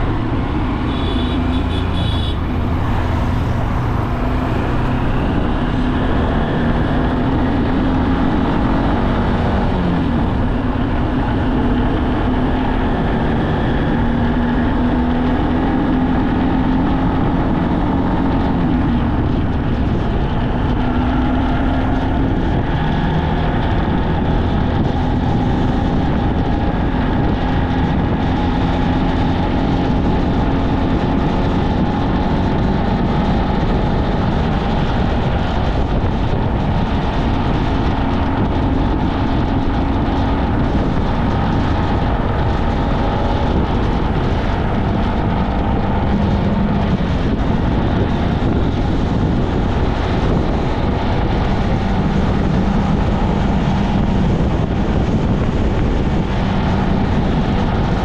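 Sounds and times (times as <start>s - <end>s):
engine hum: 0.0s - 58.0s
road noise low rumble: 0.0s - 58.0s.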